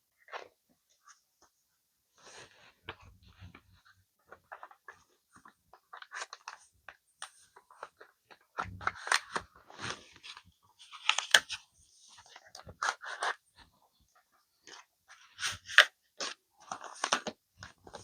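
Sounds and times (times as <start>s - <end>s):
paper crinkling and rustling: 2.2s - 13.7s, 14.7s - 18.0s.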